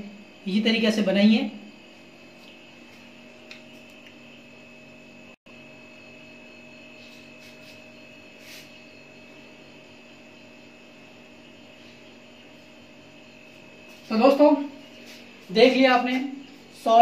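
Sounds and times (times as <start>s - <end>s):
electrical hum: 0.0s - 17.0s
faint high whine: 0.0s - 17.0s.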